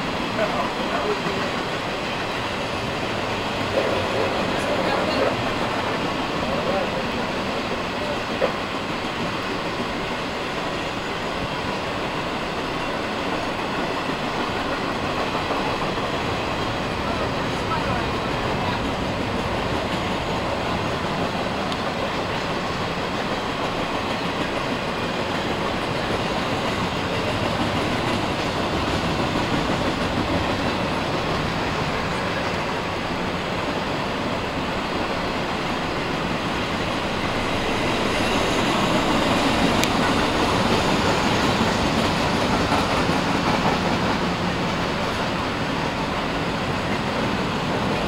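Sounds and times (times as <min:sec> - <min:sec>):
freight train rolling past: 0:00.0 - 0:48.0.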